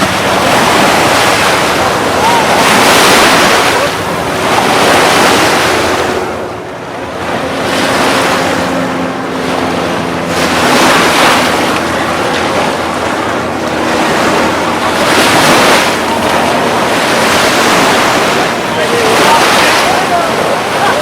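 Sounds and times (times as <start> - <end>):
ocean surf washing on beach: 0.0 - 21.0
wind buffeting microphone: 0.0 - 21.0.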